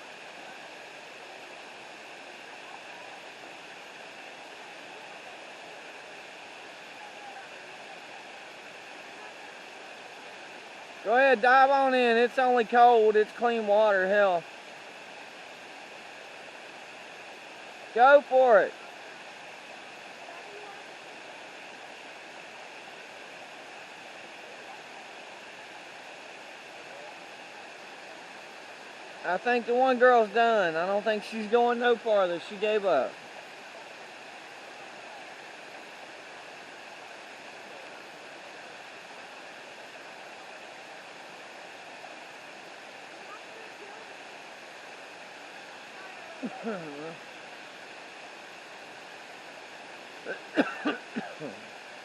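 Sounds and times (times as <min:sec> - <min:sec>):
creek water flowing: 0:00.0 - 0:52.0
waterfall rushing: 0:00.0 - 0:52.0.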